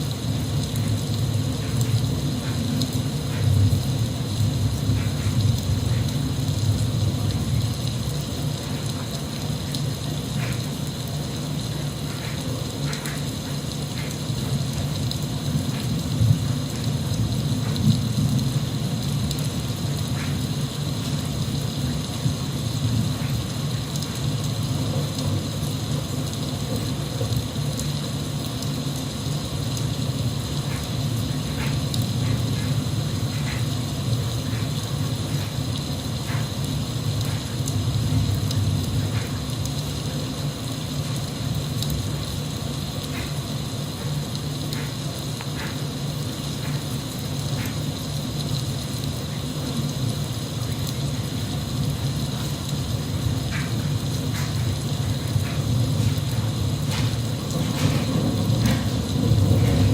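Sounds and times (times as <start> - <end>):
continuous low rumble: 0.0 - 59.9
rain drop ticks: 0.0 - 59.9
steady rain: 0.0 - 59.9.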